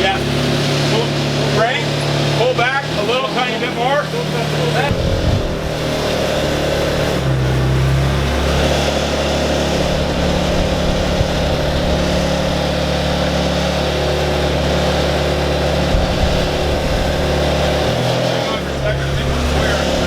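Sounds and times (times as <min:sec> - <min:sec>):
lifting machine engine running: 0:00.0 - 0:20.0.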